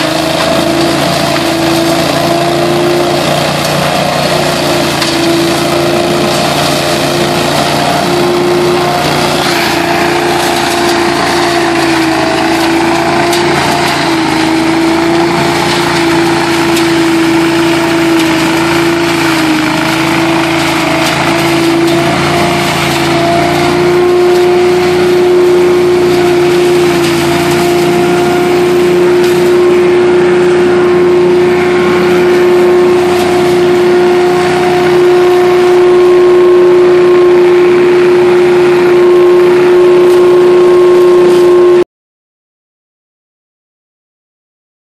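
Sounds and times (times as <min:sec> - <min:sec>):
debris loader engine whine: 0:00.0 - 0:41.9.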